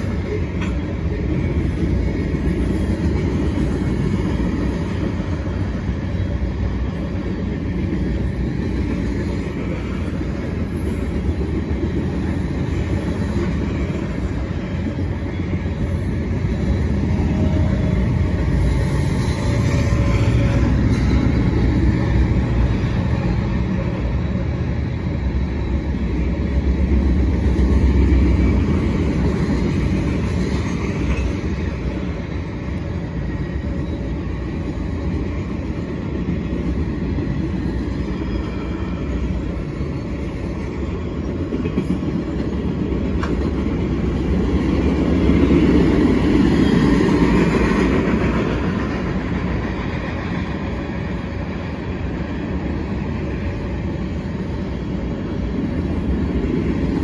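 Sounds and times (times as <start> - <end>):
freight cars rolling on rails: 0.0 - 57.0.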